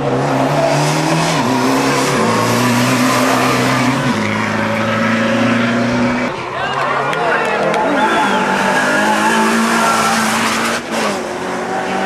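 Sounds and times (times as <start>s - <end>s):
rally car engine at high revs: 0.0s - 6.4s, 7.9s - 12.0s.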